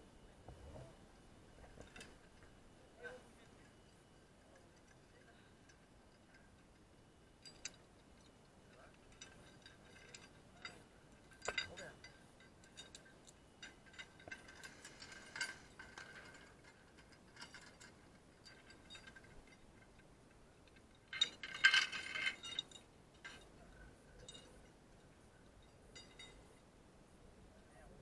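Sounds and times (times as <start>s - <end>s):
metal hardware clinking: 3.4s - 26.6s.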